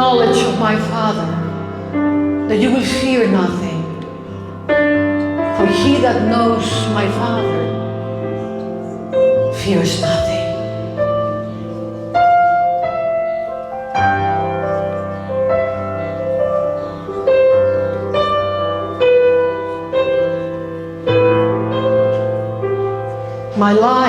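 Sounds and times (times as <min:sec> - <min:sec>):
slow soft piano music: 0:00.0 - 0:24.0.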